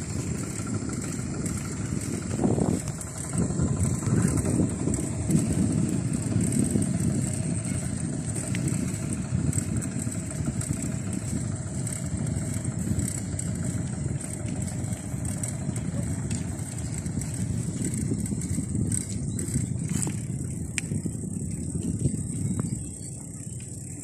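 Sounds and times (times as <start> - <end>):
bicycle tyres on concrete: 0.0 - 24.0
wind buffeting microphone: 0.0 - 24.0.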